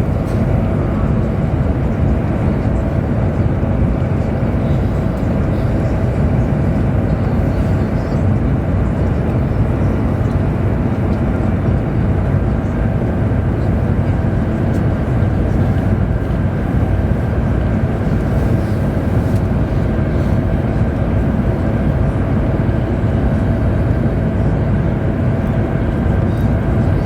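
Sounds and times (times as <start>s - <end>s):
train rumbling at speed: 0.0s - 27.0s.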